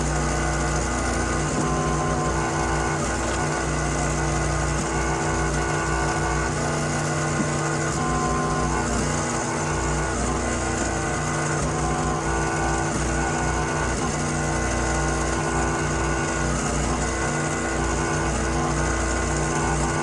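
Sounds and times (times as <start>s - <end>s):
small machine engine running: 0.0s - 20.0s.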